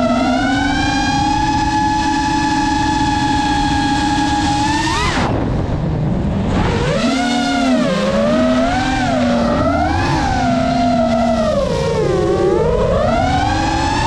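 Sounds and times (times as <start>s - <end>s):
drone motors whining: 0.0s - 14.0s
low rushing noise: 0.0s - 14.0s.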